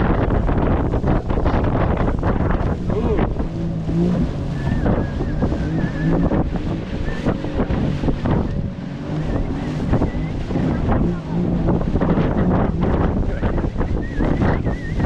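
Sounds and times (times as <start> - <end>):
water and waves washing: 0.0 - 15.0
wind buffeting microphone: 0.0 - 15.0.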